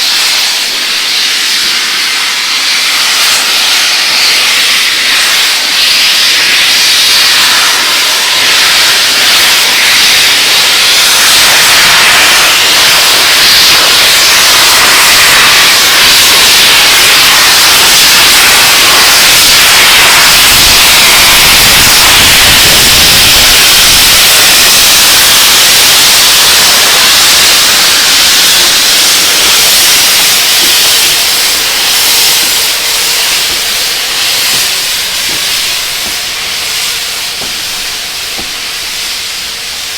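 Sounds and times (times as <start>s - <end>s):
steam locomotive hissing steam: 0.0s - 39.9s.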